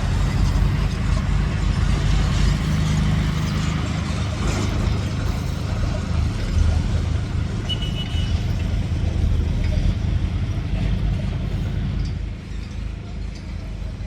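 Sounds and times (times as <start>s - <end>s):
rushing noise: 0.0s - 12.7s
engine running: 0.0s - 14.0s.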